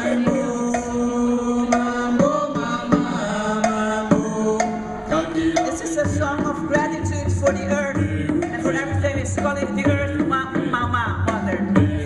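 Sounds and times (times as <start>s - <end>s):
pitched melody: 0.0s - 11.8s
deep pulsing bass: 0.0s - 12.0s.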